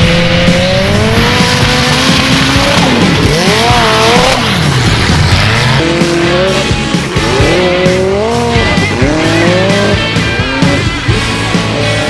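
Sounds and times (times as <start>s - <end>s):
background music: 0.0s - 12.0s
buggy engine revving hard: 0.0s - 12.0s.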